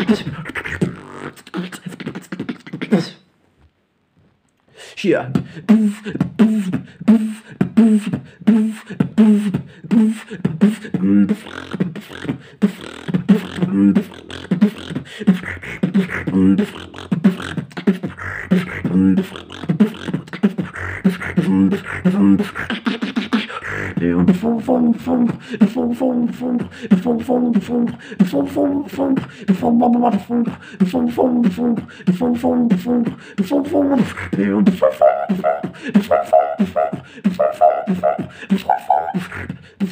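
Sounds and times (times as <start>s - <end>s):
person beatboxing: 0.0s - 3.3s, 5.0s - 39.9s.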